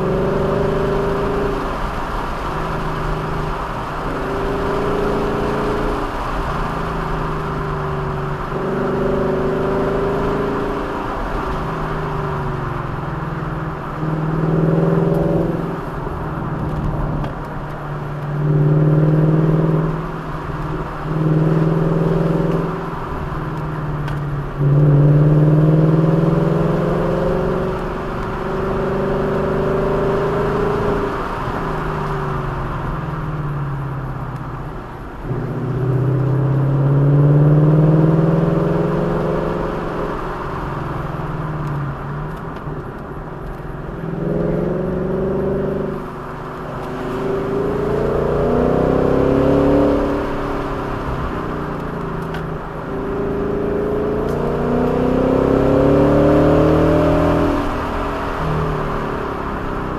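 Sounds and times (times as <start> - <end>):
rushing road noise: 0.0 - 59.9
vehicle engine accelerating: 0.0 - 59.9.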